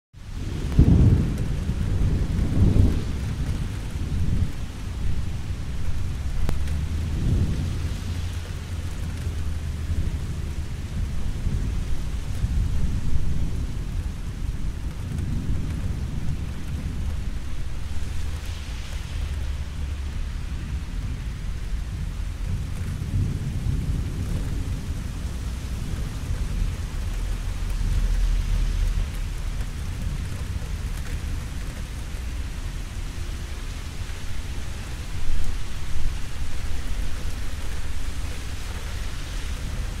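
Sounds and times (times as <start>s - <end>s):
steady rain: 0.1s - 40.0s
thunder rumbling: 0.2s - 40.0s.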